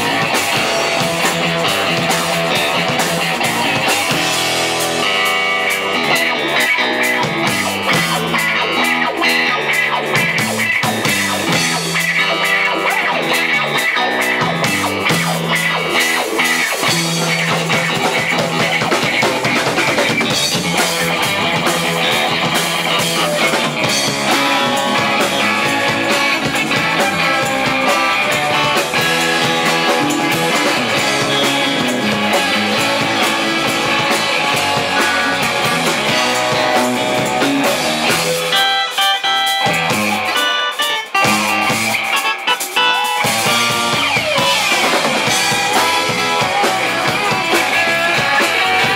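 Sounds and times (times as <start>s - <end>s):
live band playing: 0.0s - 48.9s.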